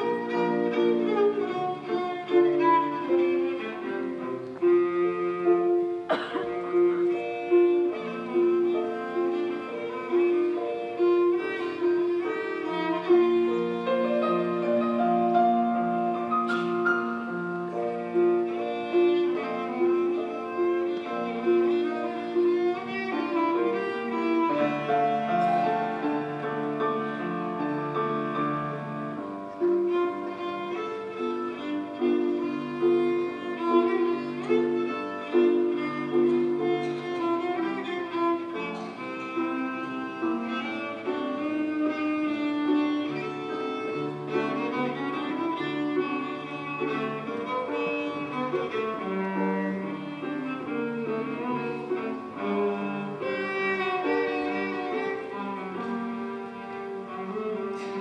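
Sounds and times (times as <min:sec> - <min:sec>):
bowed cello melody: 0:00.0 - 0:58.0.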